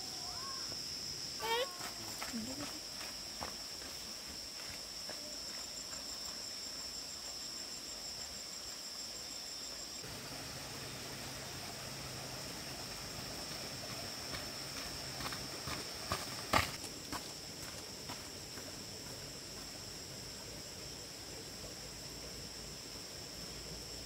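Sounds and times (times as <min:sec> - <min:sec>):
insects droning: 0:00.0 - 0:24.0
pulsing insect chirp: 0:00.0 - 0:24.0.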